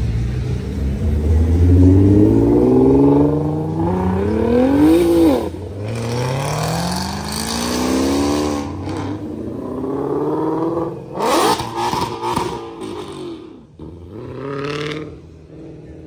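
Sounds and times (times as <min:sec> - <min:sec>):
engine revving: 0:00.0 - 0:15.2
cars accelerating: 0:00.0 - 0:16.0.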